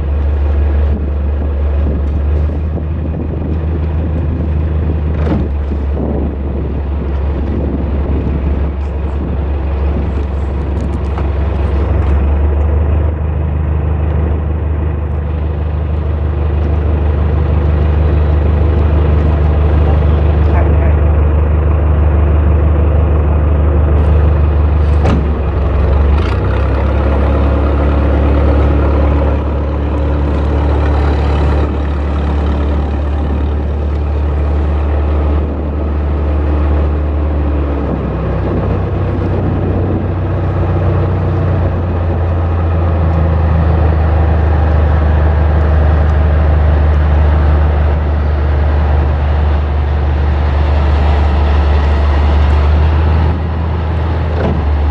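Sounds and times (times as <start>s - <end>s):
heavy machinery deep hum: 0.0s - 54.9s.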